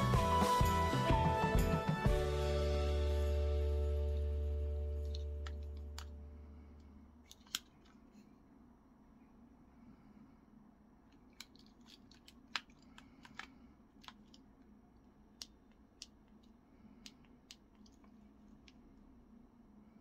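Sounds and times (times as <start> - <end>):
faint steady hum: 2.2 - 20.0.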